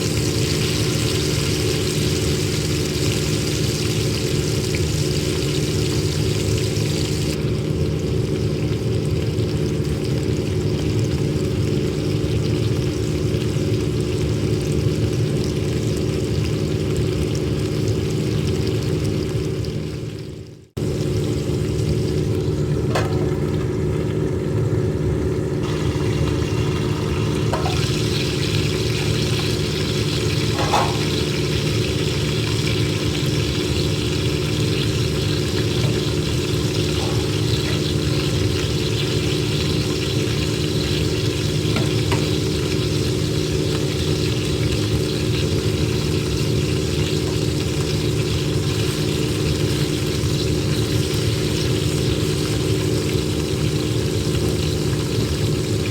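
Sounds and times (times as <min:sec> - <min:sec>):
chicken sizzling: 0:00.0 - 0:55.9
low machine hum: 0:00.0 - 0:55.9.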